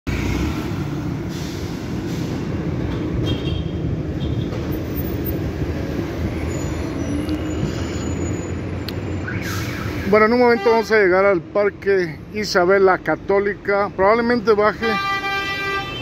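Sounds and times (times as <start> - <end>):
street traffic rumble: 0.1 - 16.0.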